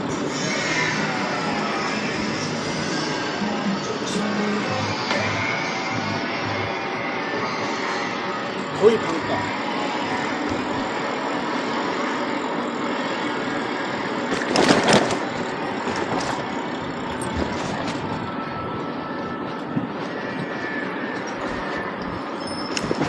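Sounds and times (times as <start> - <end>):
city traffic and road noise: 0.0 - 23.0.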